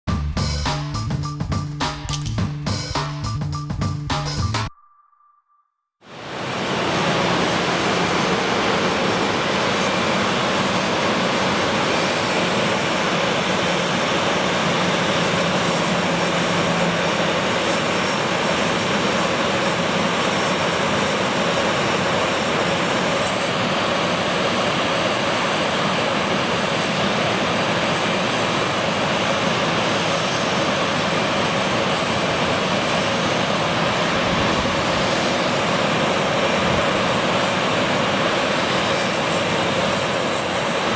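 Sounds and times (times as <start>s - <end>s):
jet engines whining: 6.1s - 40.9s.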